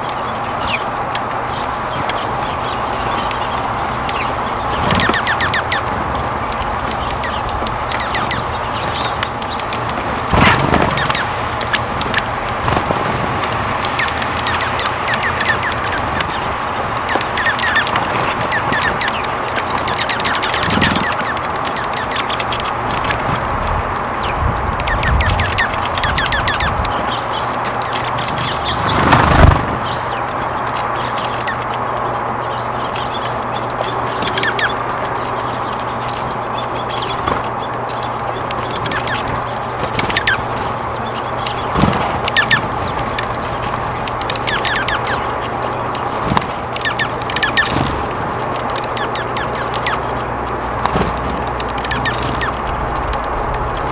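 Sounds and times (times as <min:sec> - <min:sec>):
songbirds chirping: 0:00.0 - 0:53.9.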